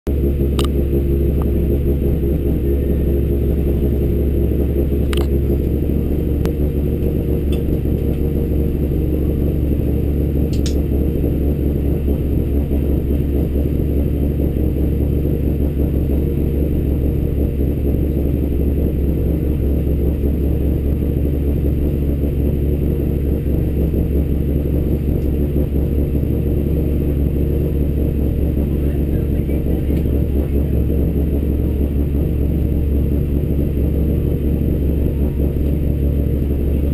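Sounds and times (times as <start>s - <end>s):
car engine idling: 0.1s - 36.9s.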